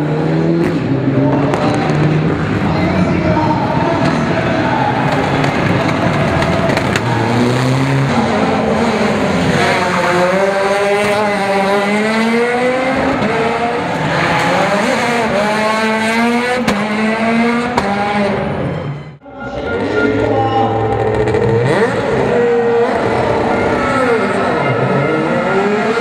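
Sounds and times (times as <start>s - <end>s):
rally car engine revving: 0.0s - 18.8s, 19.6s - 26.0s.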